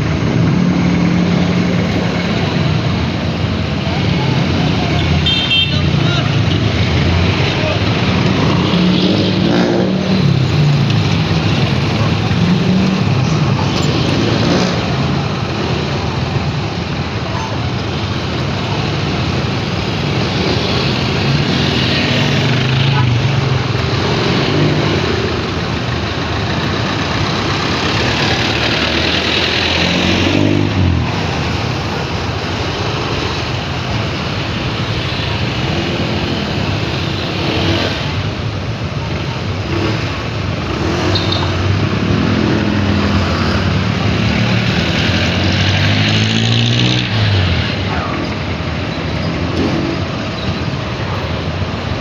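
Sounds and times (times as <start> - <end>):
road and wind noise: 0.0 - 52.0
vehicle engines running: 0.0 - 52.0.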